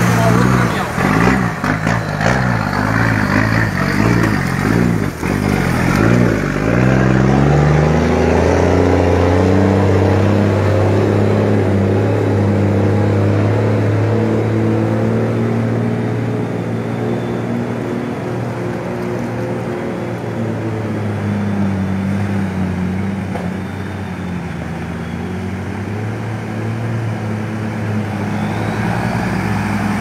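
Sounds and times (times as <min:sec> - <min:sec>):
diesel truck engine running: 0:00.0 - 0:30.0.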